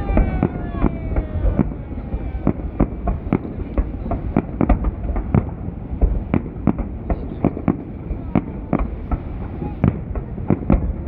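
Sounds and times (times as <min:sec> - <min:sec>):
continuous low rumble: 0:00.0 - 0:11.0
fireworks bangs: 0:00.0 - 0:11.0.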